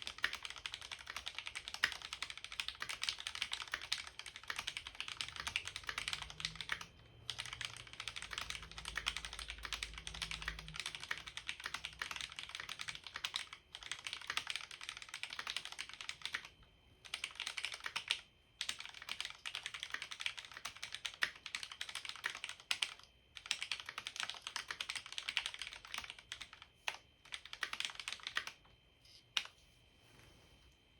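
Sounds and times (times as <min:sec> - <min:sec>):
mechanical keyboard typing: 0:00.0 - 0:28.6.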